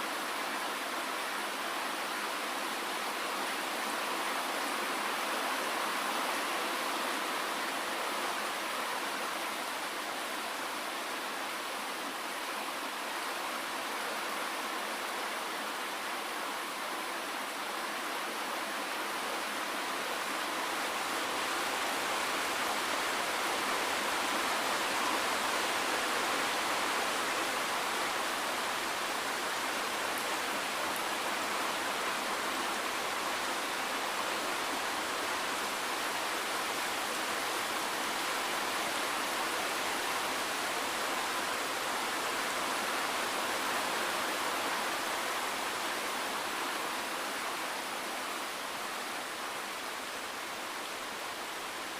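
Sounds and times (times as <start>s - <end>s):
steady dense rainfall: 0.0s - 51.9s.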